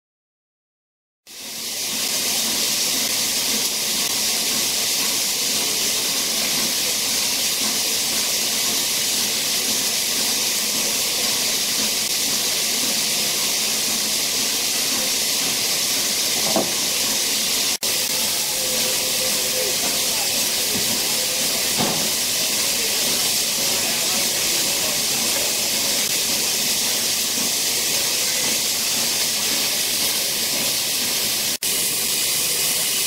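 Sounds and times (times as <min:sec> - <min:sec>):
steam hissing from locomotive: 0:01.3 - 0:33.0.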